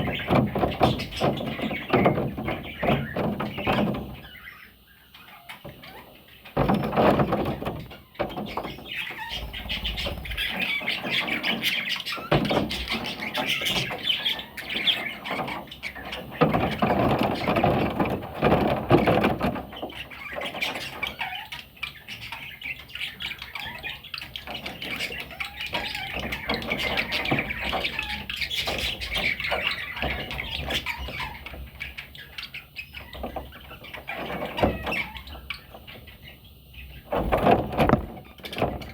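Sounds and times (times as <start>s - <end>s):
parrot chicks squawking: 0.0s - 38.9s.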